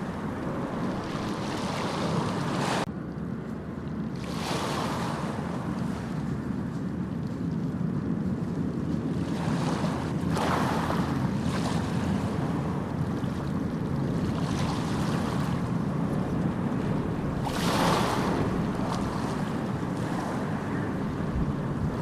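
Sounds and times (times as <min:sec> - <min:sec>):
sea waves breaking on beach: 0:00.0 - 0:02.9, 0:04.1 - 0:06.5, 0:09.0 - 0:22.0
low rumble of surf: 0:00.0 - 0:22.0.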